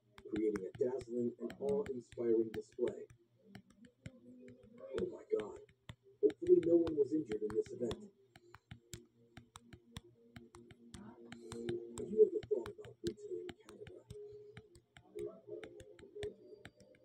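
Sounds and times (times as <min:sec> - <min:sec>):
quick irregular clicks: 0:00.0 - 0:17.0.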